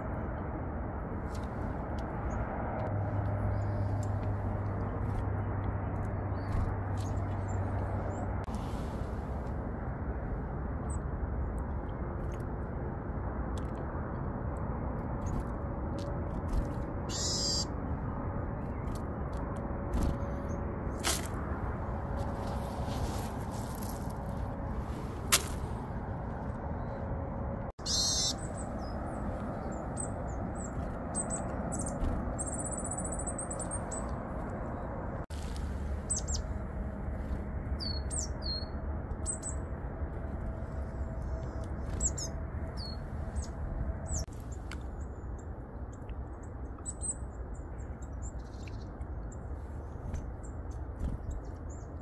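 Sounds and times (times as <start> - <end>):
songbirds chirping: 1.3 - 9.5, 13.6 - 52.0.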